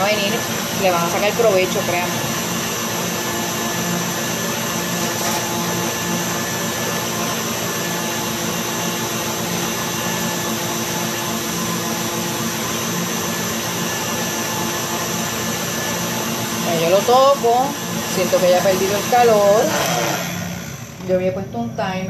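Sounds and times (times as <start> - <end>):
stand mixer motor whirring: 0.0 - 21.4.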